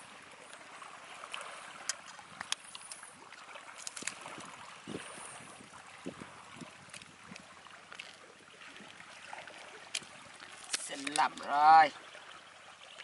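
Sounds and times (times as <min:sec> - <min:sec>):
water trickling on rocks: 0:00.0 - 0:13.0.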